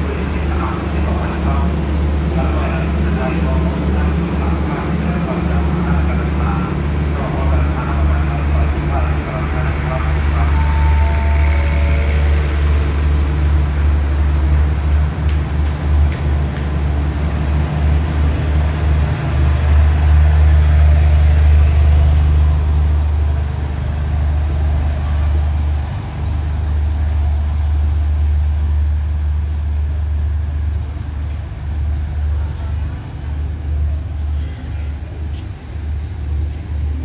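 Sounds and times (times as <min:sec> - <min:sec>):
train carriages rumbling past: 0:00.0 - 0:37.0.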